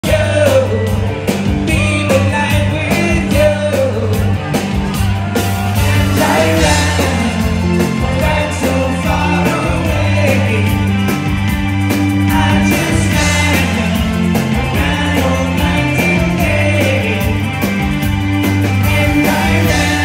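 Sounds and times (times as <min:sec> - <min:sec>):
drums keeping a steady beat: 0:00.0 - 0:20.0
electric bass: 0:00.0 - 0:20.0.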